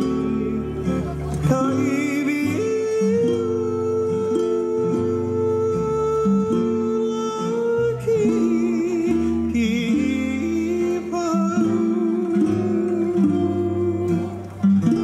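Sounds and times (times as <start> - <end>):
acoustic guitars strumming chords: 0.0 - 15.0.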